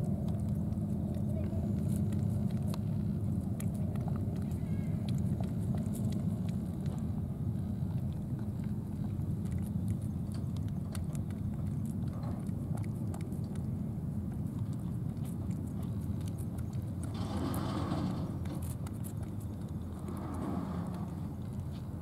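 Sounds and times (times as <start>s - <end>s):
steady low rumble: 0.0s - 22.0s
cat licking wet tongue clicks: 0.1s - 17.1s, 18.6s - 20.1s.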